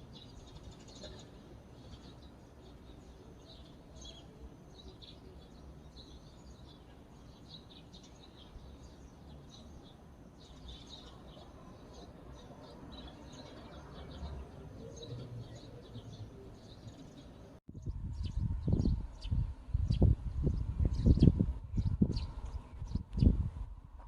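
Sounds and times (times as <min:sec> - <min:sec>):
small birds chirping: 0:00.0 - 0:23.5.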